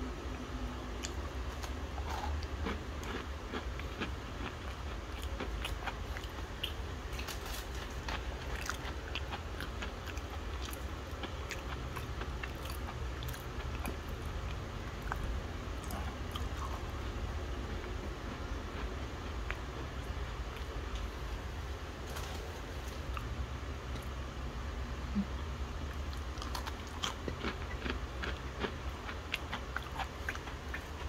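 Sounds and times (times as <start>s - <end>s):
biscuits being chewed: 1.0s - 24.2s, 25.2s - 31.0s.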